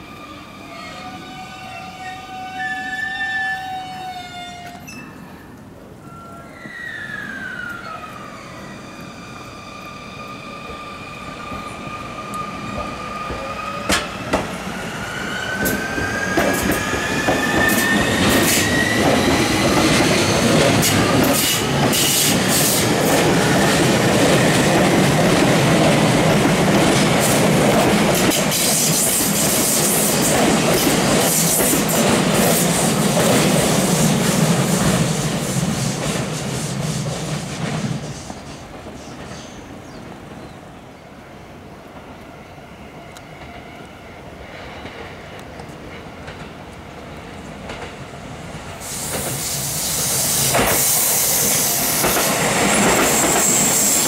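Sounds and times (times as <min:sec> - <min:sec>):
train passing rush: 0:00.0 - 0:54.0.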